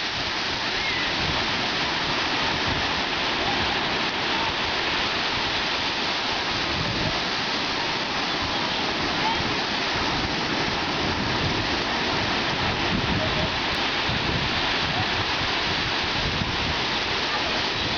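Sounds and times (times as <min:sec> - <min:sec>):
ocean waves breaking: 0:00.0 - 0:17.9.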